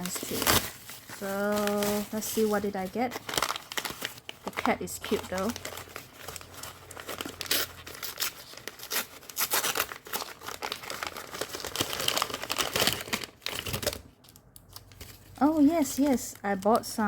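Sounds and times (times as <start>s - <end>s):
packaging crinkling and tearing: 0.0s - 17.0s.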